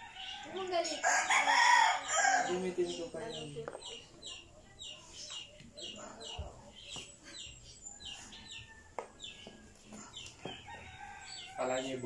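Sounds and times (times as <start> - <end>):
bird chirping: 2.0 - 12.0.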